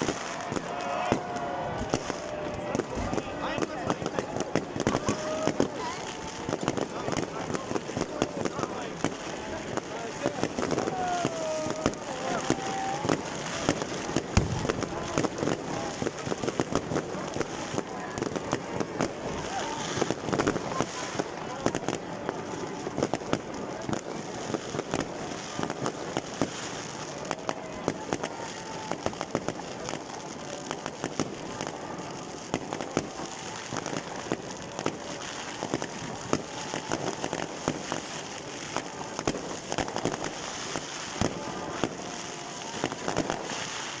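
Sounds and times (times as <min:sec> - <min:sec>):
fireworks and firecrackers exploding: 0:00.0 - 0:44.0.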